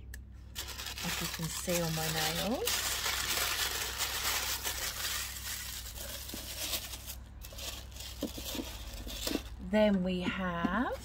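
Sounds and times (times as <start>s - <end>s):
tissue paper crinkling: 0.5s - 9.6s.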